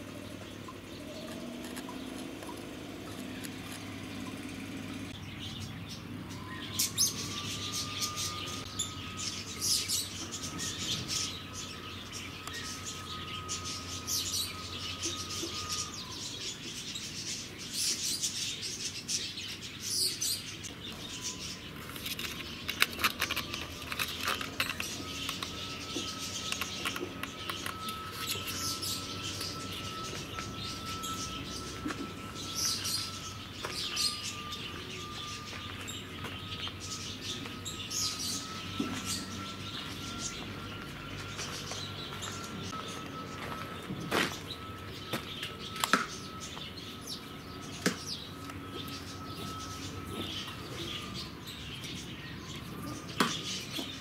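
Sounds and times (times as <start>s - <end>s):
birds chirping: 0.0s - 54.0s
faint whine and hum: 0.0s - 54.0s.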